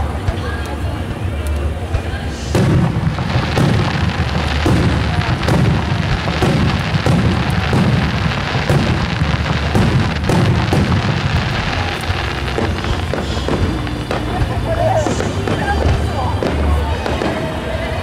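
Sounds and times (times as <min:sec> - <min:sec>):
continuous low rumble: 0:00.0 - 0:18.0
fireworks bursting: 0:00.0 - 0:18.0
music playing: 0:00.0 - 0:18.0.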